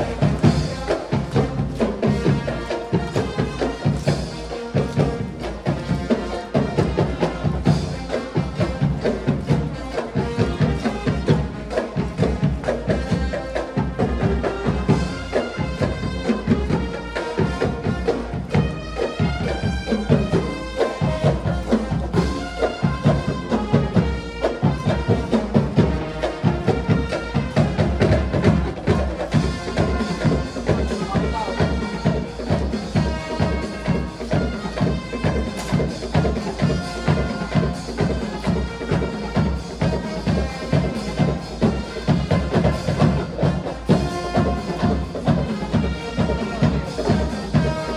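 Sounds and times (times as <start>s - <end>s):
marching band playing: 0.0s - 47.9s
steady drum beat: 0.0s - 47.9s.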